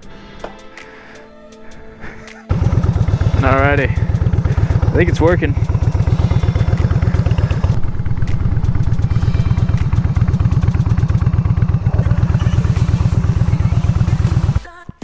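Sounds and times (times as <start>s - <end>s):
motorcycle engine running: 2.5s - 14.7s.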